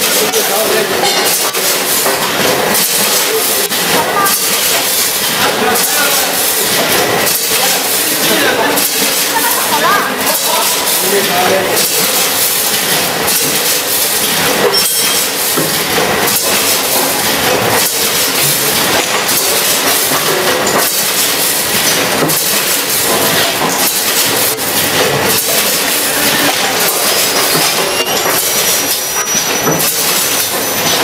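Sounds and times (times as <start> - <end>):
packaging machine hiss and clatter: 0.0 - 31.0
sharp machine knock: 0.0 - 31.0.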